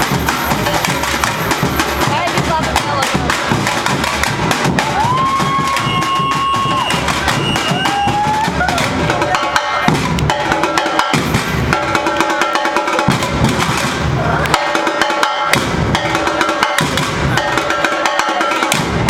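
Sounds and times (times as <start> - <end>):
deep bass drums: 0.0 - 12.2, 13.1 - 14.7, 15.5 - 17.7
samba percussion ensemble: 0.0 - 19.0.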